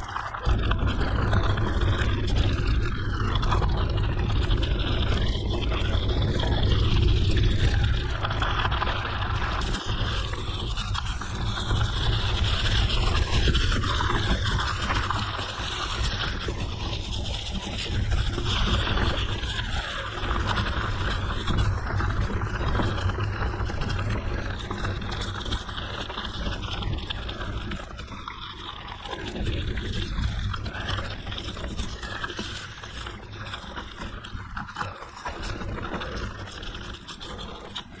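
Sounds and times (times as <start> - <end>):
bicycle tyre noise: 0.0 - 38.0.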